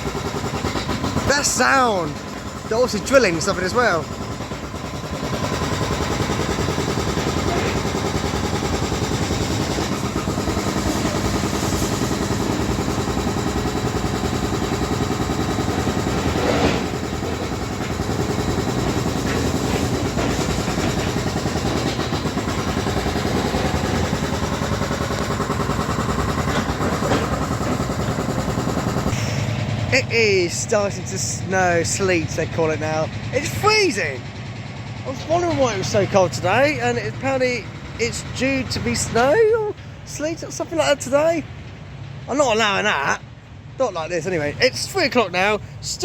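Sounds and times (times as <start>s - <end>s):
continuous drilling into steel: 0.0s - 43.2s, 43.9s - 46.0s
heavy machinery engine drone: 0.0s - 46.0s.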